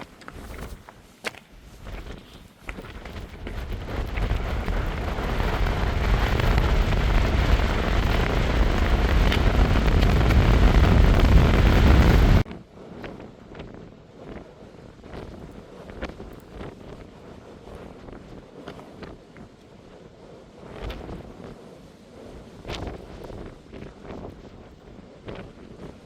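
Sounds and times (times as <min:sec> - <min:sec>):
wind buffeting microphone: 0:01.6 - 0:26.0.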